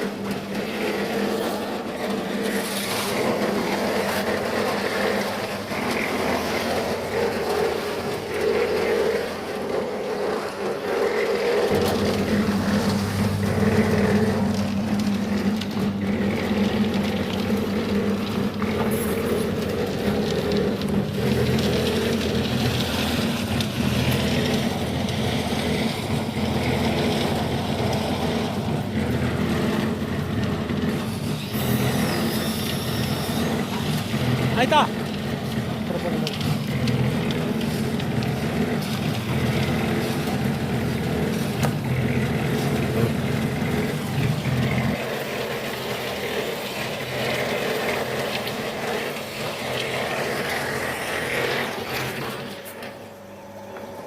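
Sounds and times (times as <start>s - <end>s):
concrete mixer motor humming: 0.0s - 54.0s.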